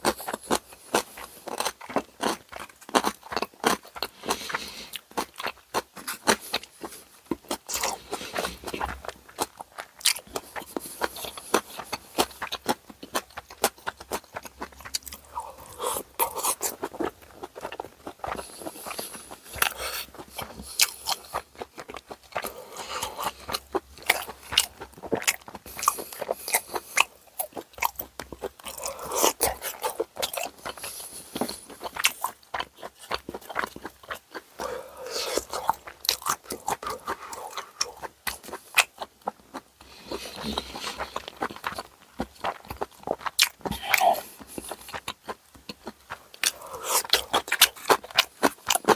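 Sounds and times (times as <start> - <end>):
crunching bites: 0.0 - 48.9
wet chewing: 0.0 - 48.9.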